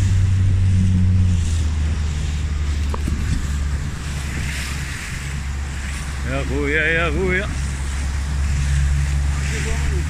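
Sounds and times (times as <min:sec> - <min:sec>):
outboard motor humming: 0:00.0 - 0:10.0
water noise: 0:00.0 - 0:10.0
wind: 0:00.0 - 0:10.0.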